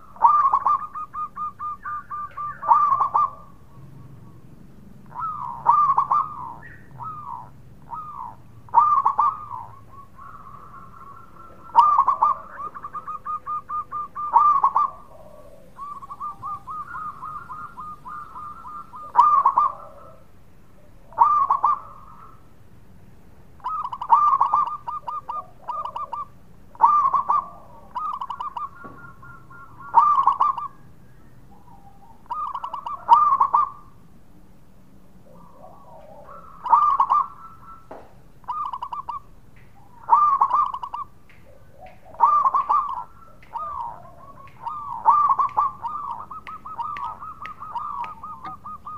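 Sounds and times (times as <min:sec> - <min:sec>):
dove cooing: 0:00.0 - 0:22.5, 0:23.6 - 0:34.0, 0:35.2 - 0:48.9.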